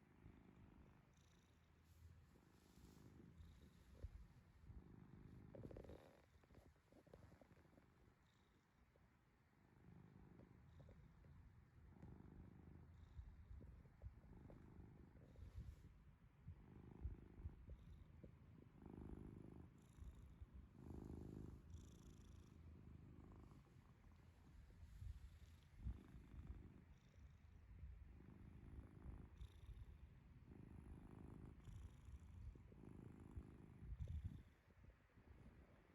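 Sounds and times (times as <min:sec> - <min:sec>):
cat snoring faintly: 0:00.0 - 0:35.9.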